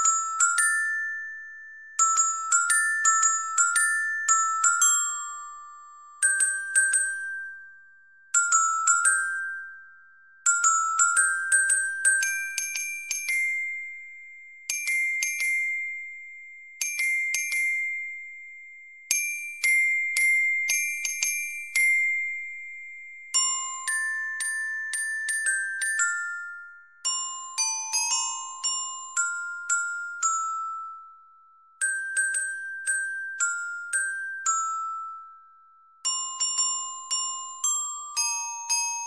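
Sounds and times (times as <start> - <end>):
bell-like mallet percussion melody: 0.0 - 16.0, 19.1 - 39.0.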